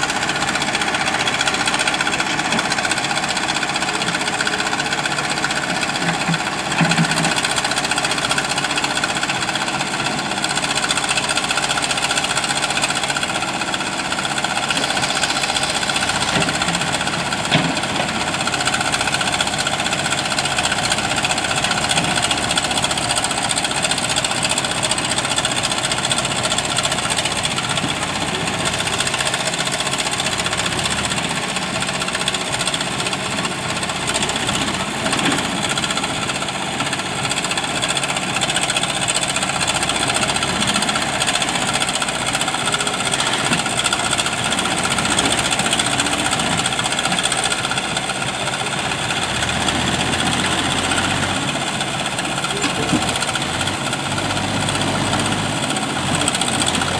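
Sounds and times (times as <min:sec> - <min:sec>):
backhoe digging gravel: 0:00.0 - 0:56.9
diesel engine running under load: 0:00.0 - 0:56.9.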